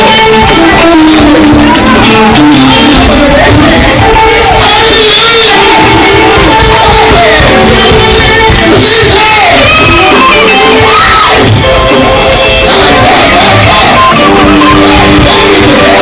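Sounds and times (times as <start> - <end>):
dense instrumental accompaniment: 0.0 - 16.0
voices singing and calling out: 0.0 - 16.0.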